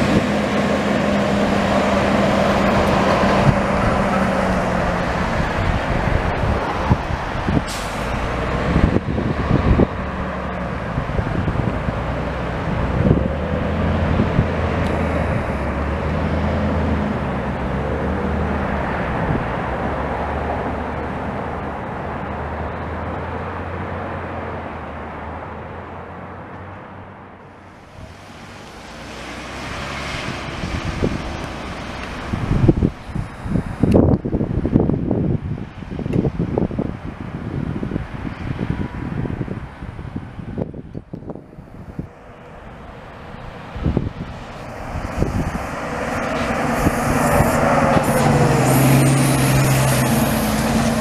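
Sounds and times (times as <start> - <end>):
bus engine drone: 0.0 - 51.0
passing vehicle road noise: 0.0 - 51.0.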